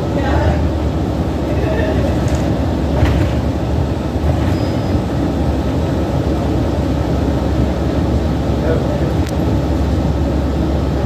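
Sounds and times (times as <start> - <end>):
bus cabin rumble: 0.0 - 11.0.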